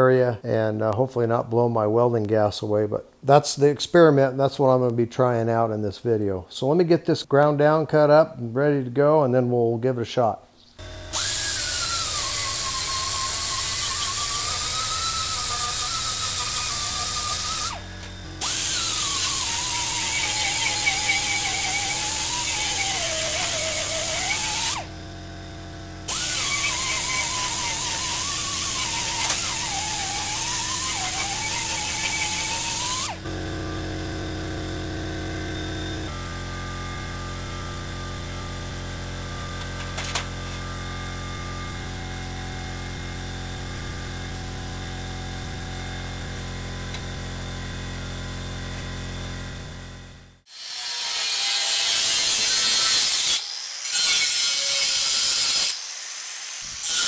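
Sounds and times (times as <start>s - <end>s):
pneumatic grinder whining: 10.8s - 57.0s.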